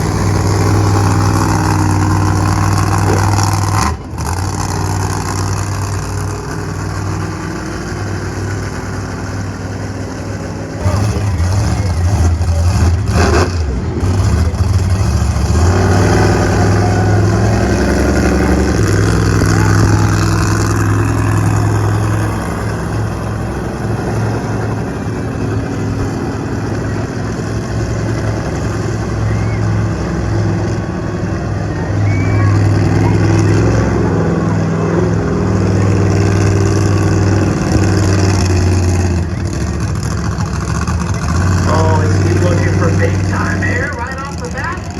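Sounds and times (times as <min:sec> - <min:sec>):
monster truck engine running: 0:00.0 - 0:44.9.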